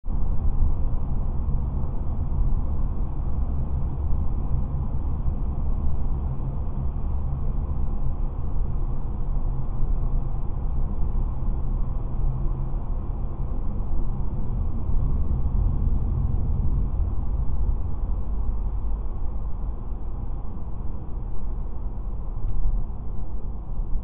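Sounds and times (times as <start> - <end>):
car driving through tunnel: 0.3 - 24.0.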